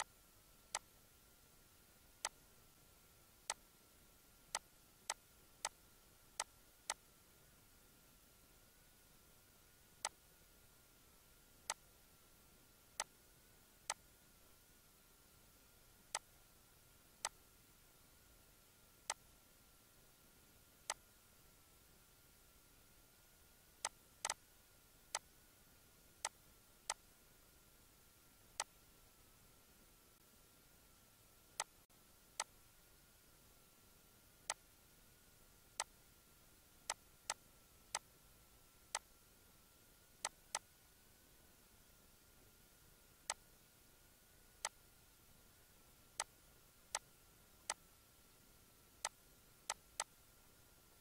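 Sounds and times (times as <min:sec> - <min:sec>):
faint high hum: 0:00.0 - 0:51.0.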